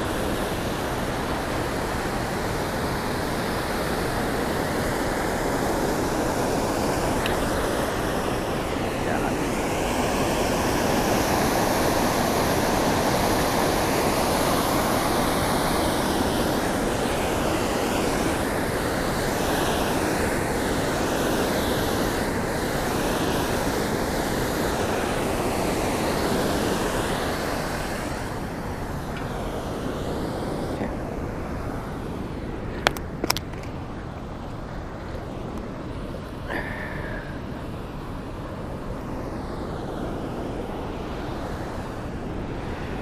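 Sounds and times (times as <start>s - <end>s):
river water pouring over weir: 0.0s - 43.0s.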